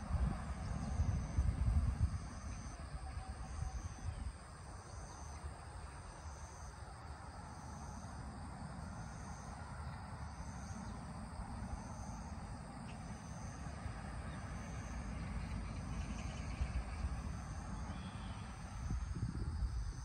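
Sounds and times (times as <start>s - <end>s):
low steady rumble: 0.0s - 20.0s
insect chirping trill: 0.4s - 20.0s.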